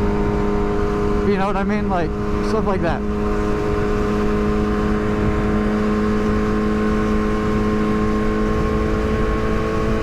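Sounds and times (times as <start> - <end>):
motorcycle engine cruising: 0.0 - 10.0
wind rumbling on microphone: 0.0 - 10.0.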